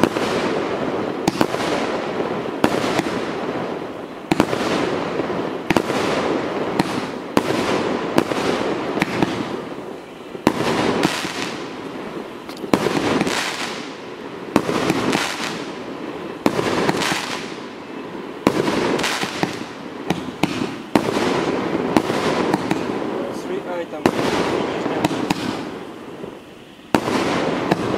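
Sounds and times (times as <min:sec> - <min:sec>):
firework shot hissing: 0:00.0 - 0:27.9
fireworks reports: 0:00.0 - 0:27.9.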